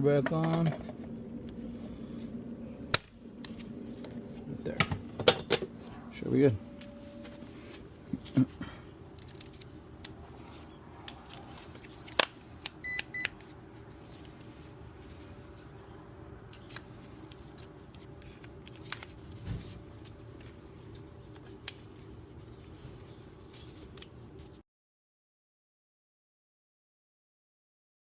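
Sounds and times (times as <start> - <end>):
air conditioner humming: 0.0 - 24.6.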